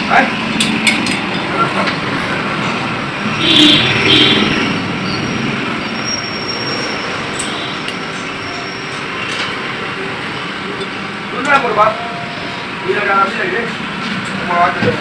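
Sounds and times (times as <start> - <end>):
traffic or machinery noise: 0.0 - 15.0.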